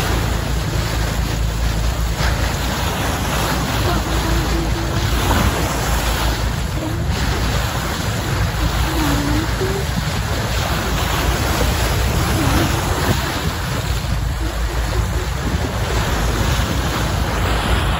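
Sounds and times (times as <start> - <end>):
water rushing along boat hull: 0.0 - 17.9
wind buffeting microphone: 0.0 - 17.9.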